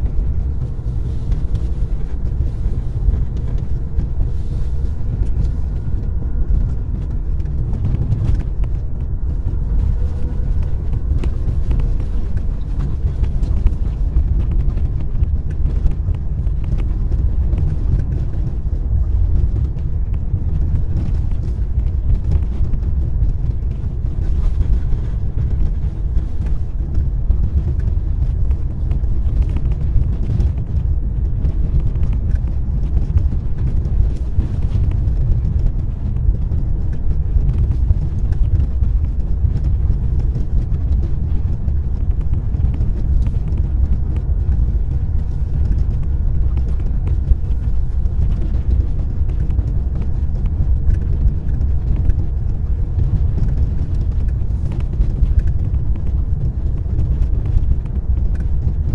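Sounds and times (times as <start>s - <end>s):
car tyres and engine rumble: 0.0s - 58.9s.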